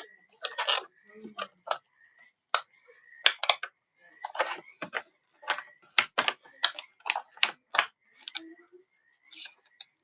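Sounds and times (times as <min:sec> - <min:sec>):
plastic clicks and snaps: 0:00.0 - 0:01.9, 0:02.5 - 0:08.6.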